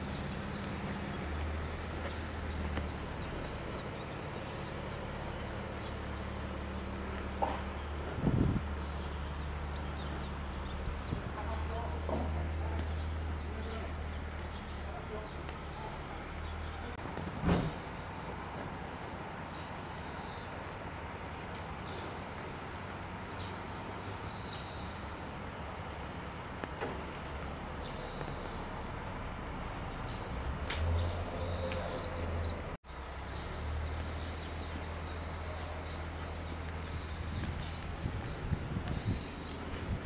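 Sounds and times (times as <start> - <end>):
distant traffic: 0.0 - 40.0.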